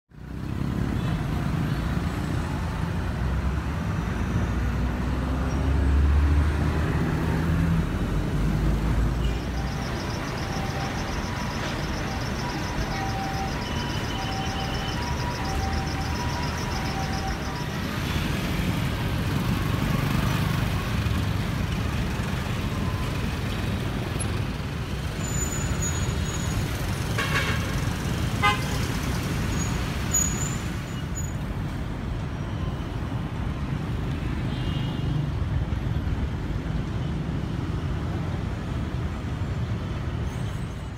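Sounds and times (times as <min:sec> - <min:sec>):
vehicle engines passing: 0:00.1 - 0:40.9.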